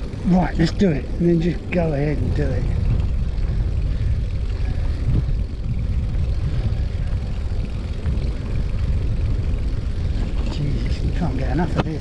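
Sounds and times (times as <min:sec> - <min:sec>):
bicycle tyre noise on pavement: 0:00.0 - 0:12.0
wind buffeting microphone: 0:00.0 - 0:12.0.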